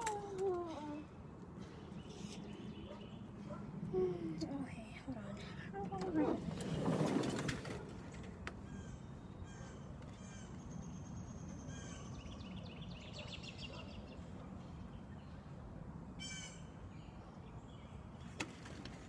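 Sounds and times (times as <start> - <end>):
wild birds calling: 0.0 - 4.6, 5.4 - 15.4, 16.2 - 19.0
steady low background noise: 0.0 - 19.0.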